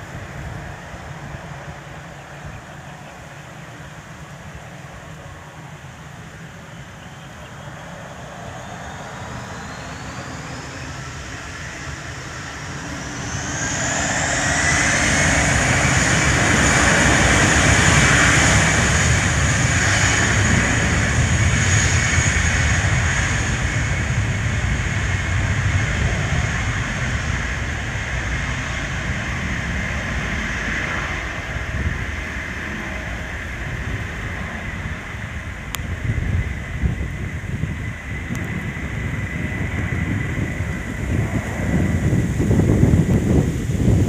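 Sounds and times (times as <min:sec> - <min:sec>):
jet engines spooling up: 0:03.6 - 0:44.0.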